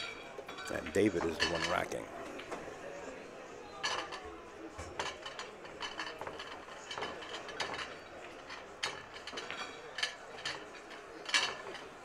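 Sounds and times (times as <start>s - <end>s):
pool balls clacking: 0.0s - 2.7s, 3.9s - 12.0s.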